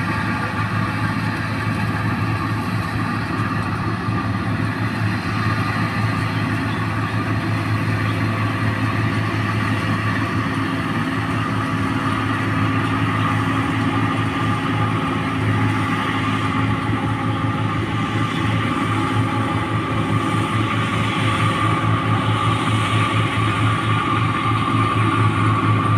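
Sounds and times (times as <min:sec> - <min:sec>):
combine harvester engine hum: 0:00.0 - 0:25.9
machinery whine: 0:00.0 - 0:25.9.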